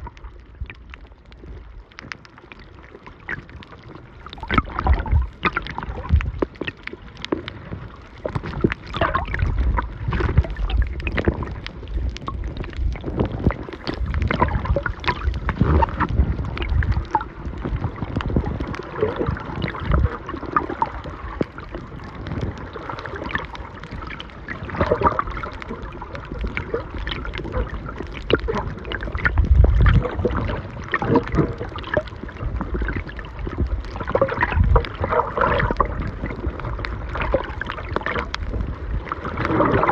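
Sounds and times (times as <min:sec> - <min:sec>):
crackles and knocks: 0:00.0 - 0:39.9
muffled underwater sloshing: 0:00.0 - 0:39.9
low rumbling: 0:08.0 - 0:39.9.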